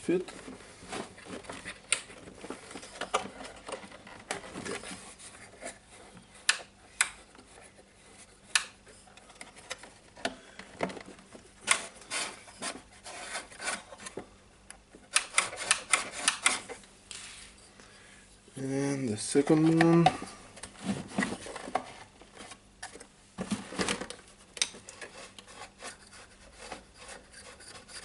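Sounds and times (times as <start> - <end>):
hard plastic rubbing: 0.1 - 14.3, 19.4 - 28.0.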